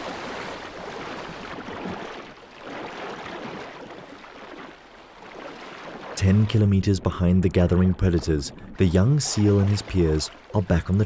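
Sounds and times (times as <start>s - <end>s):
sea water splashing and rushing: 0.0s - 11.0s.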